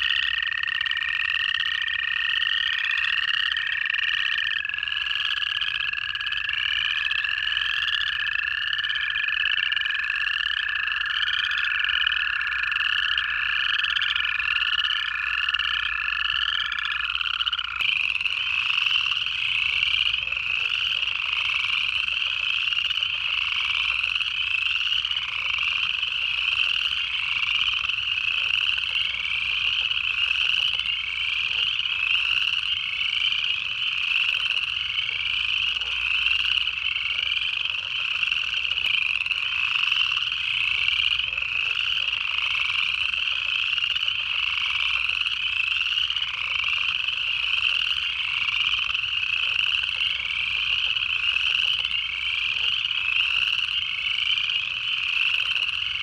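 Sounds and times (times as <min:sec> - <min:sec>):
chorus frogs trilling: 0:00.0 - 0:56.0.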